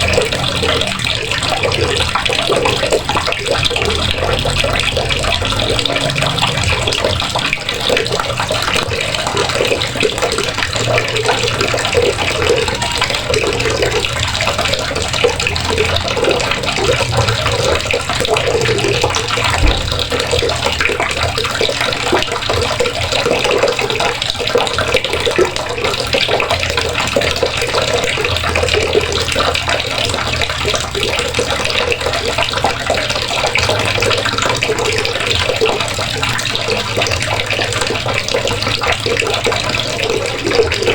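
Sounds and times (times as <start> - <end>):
water running from a faucet: 0.0 - 40.9.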